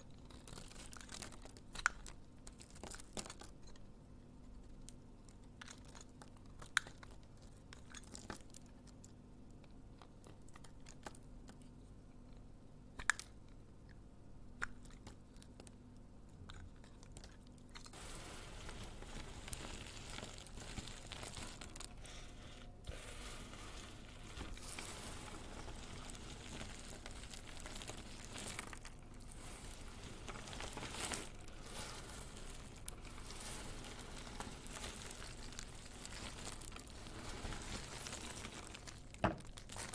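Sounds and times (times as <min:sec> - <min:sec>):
soap crunching and crinkling: 0:00.0 - 0:03.8, 0:04.5 - 0:14.0, 0:14.6 - 0:39.9.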